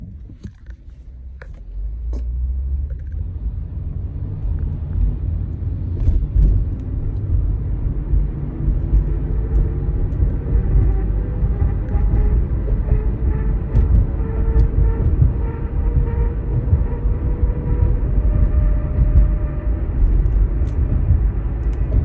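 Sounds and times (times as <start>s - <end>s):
car engine rumble accelerating: 0.0s - 22.0s.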